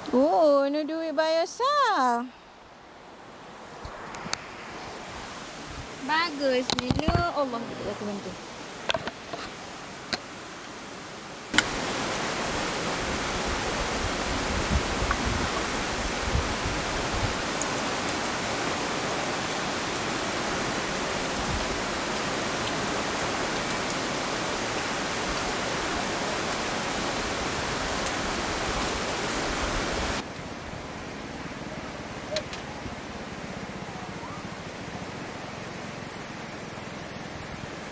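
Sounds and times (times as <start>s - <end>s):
water rushing: 0.0s - 37.9s.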